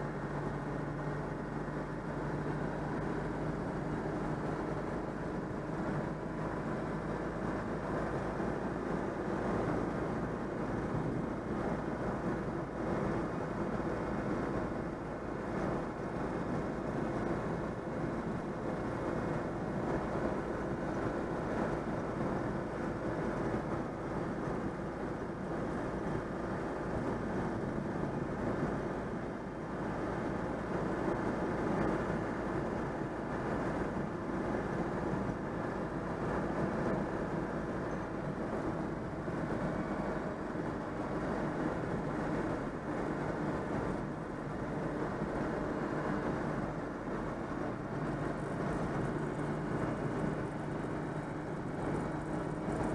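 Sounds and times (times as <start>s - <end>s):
car engine running: 0.0s - 52.9s
road and wind noise: 0.0s - 52.9s.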